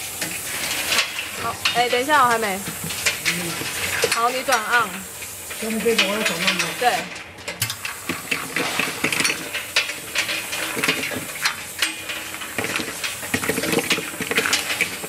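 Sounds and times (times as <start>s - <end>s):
bottle-capping machine running: 0.0s - 15.0s
caps clicking and clattering: 0.0s - 15.0s
steady hiss: 0.0s - 15.0s.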